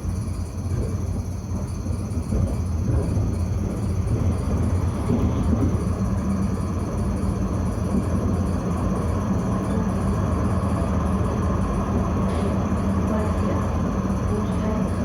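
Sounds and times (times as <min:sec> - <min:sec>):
tram wheels rumbling on rails: 0:00.1 - 0:15.0
tram motor hum: 0:02.3 - 0:15.0.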